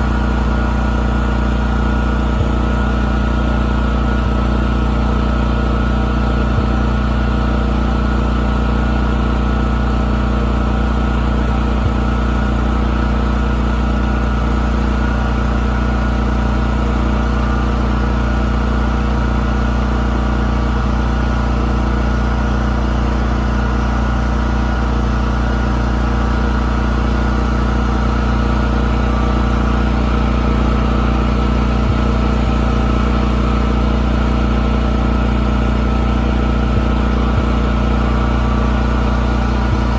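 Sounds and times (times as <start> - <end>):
model boat engine running: 0.0 - 39.9.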